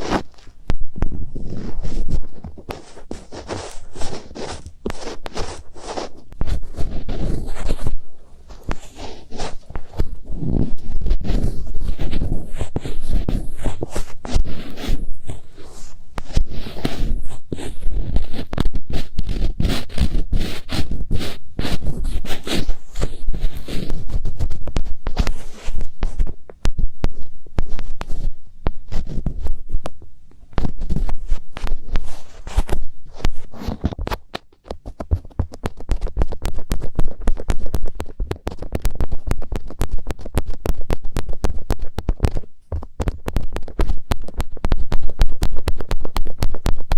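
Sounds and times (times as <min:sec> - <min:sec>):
fingertips scratching microphone: 0:00.0 - 0:46.9.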